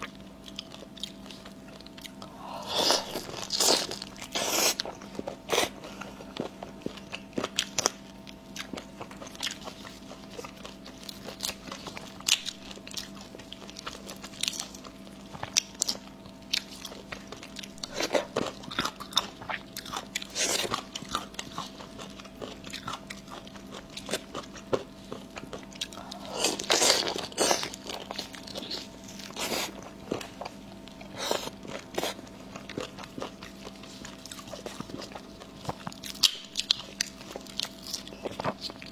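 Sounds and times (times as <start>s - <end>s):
chewing and crunching: 0.0s - 38.9s
faint steady hum: 0.0s - 38.9s.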